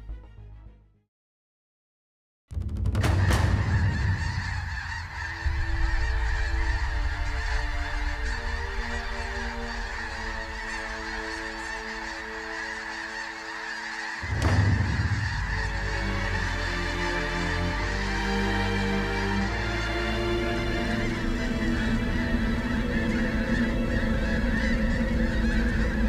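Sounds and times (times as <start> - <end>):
flock of geese honking: 3.1 - 26.0.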